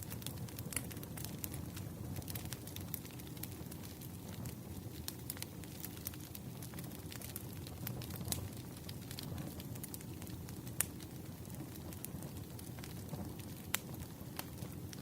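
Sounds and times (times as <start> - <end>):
fire pops: 0.0 - 15.0
firewood crackling: 0.0 - 15.0
low fire rumble: 0.0 - 15.0.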